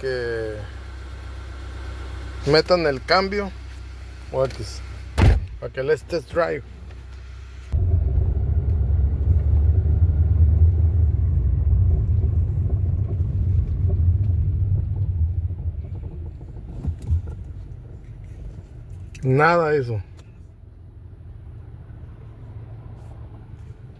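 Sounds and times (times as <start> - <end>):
car engine and road rumble: 0.0 - 23.9.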